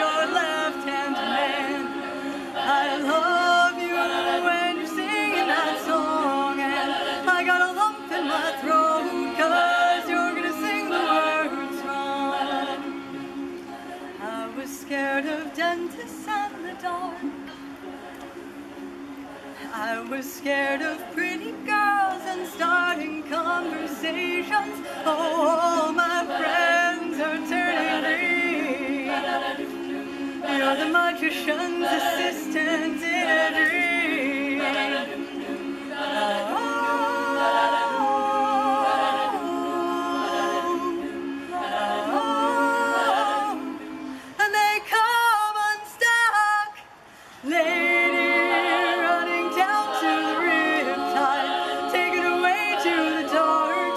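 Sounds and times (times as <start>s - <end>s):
women's a cappella group singing: 0.0s - 53.9s.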